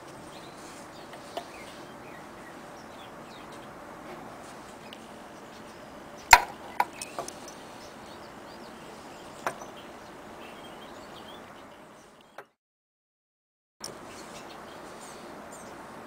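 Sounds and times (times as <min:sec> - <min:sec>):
outdoor background: 0:00.0 - 0:12.6, 0:13.8 - 0:16.0.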